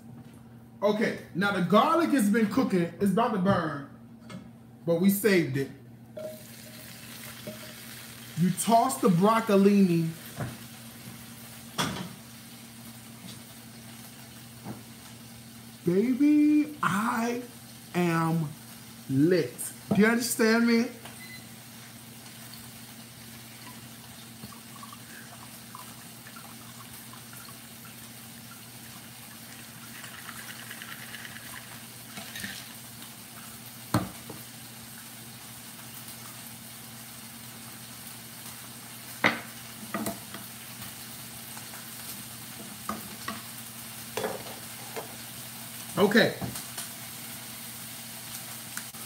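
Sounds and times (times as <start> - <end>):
vegetables sizzling in a frying pan: 6.1 - 49.0.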